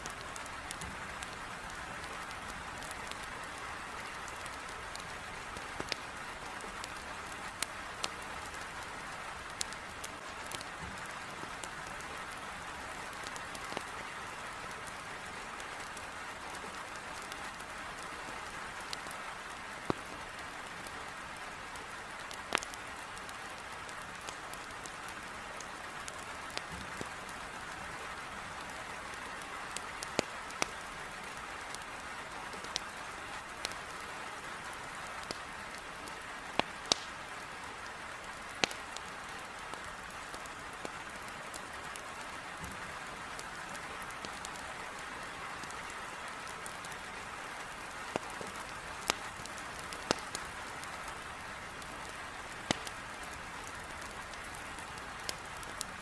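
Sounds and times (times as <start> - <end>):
heavy rain on a window: 0.0 - 56.0
wood fire crackling and popping: 0.0 - 56.0.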